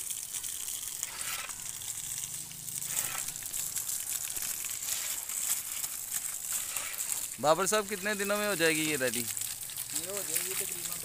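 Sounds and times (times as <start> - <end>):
hose water splashing on brick: 0.0 - 11.0.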